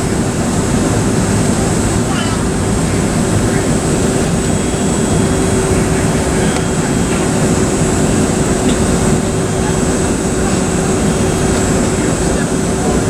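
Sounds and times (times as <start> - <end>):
airplane cabin engine rush: 0.0 - 13.0
constant hum tone: 0.0 - 13.0.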